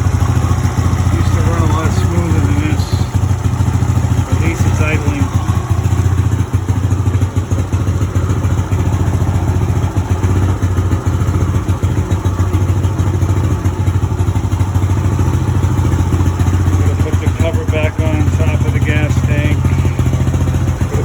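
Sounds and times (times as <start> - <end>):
small engine idling roughly: 0.0 - 21.0.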